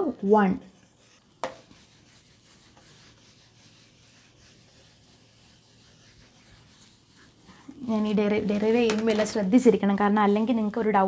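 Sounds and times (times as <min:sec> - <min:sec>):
eraser wiping whiteboard: 0:00.2 - 0:09.5.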